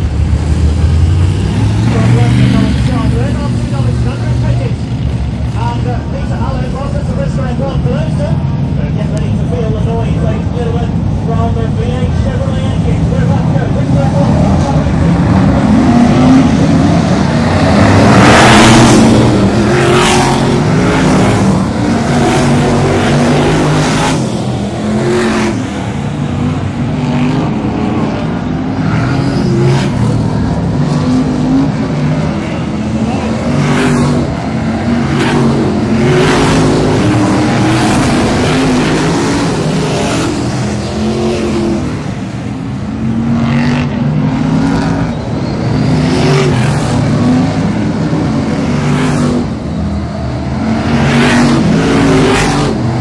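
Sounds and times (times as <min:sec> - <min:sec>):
race car engines passing: 0:00.0 - 0:53.0.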